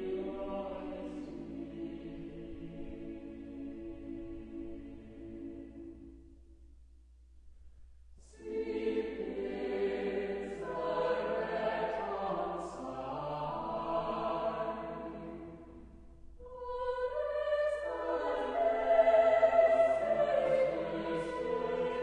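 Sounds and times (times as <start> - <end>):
choral music: 0.0 - 22.0.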